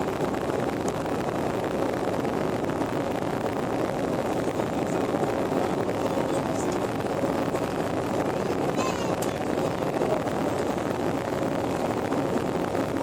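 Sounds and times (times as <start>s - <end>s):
airliner engine and airflow noise: 0.0s - 13.0s.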